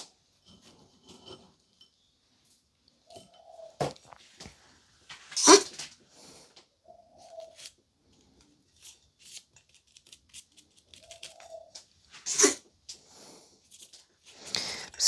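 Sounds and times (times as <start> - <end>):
crinkling and rustling of handling: 2.5 - 15.0.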